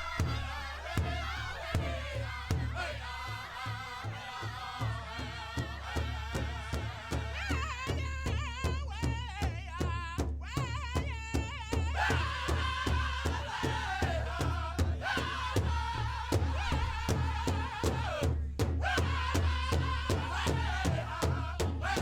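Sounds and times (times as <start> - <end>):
steady drumbeat: 0.0 - 22.0.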